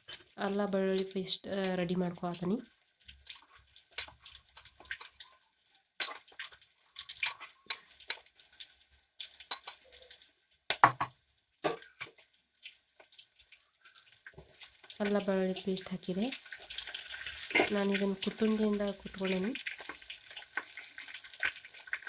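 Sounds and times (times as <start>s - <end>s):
onions sizzling in a pan: 0.0s - 22.0s.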